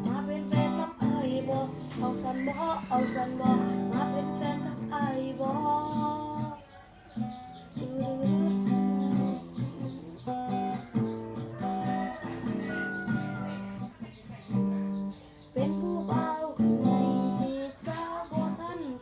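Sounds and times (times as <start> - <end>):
acoustic guitar strumming: 0.0 - 6.6, 7.2 - 19.0.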